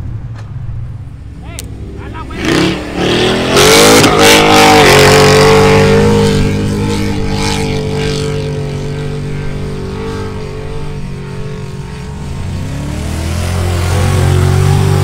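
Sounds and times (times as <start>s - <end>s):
vehicle engine high pitch: 1.4s - 15.0s.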